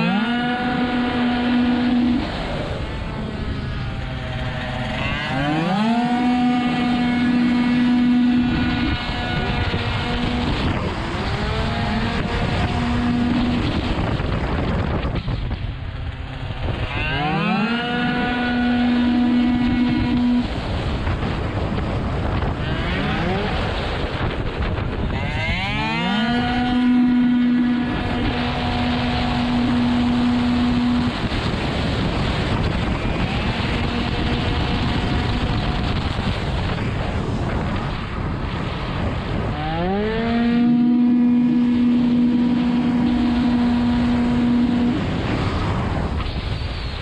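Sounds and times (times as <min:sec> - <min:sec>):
two-stroke scooter engine revving: 0:00.0 - 0:14.6, 0:15.8 - 0:37.0, 0:39.3 - 0:46.3
wind rushing over microphone: 0:00.0 - 0:47.0.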